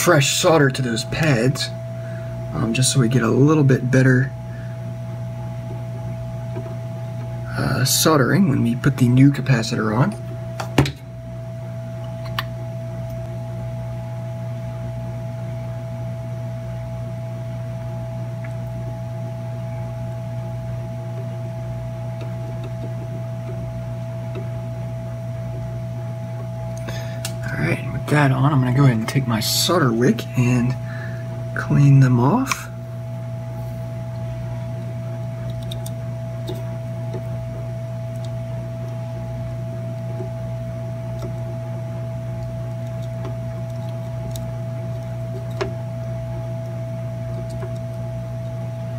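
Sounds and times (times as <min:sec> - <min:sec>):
low electrical hum: 0:00.0 - 0:48.9
thin constant whine: 0:00.0 - 0:48.9.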